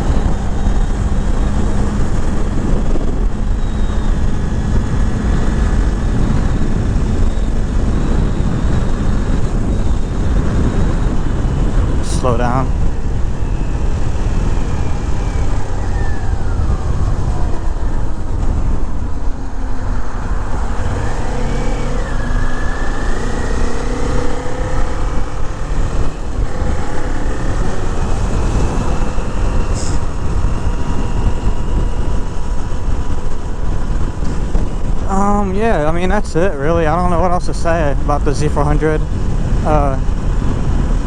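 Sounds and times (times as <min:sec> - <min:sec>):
motorcycle engine running: 0:00.0 - 0:41.0
wind rumble on microphone: 0:00.0 - 0:41.0.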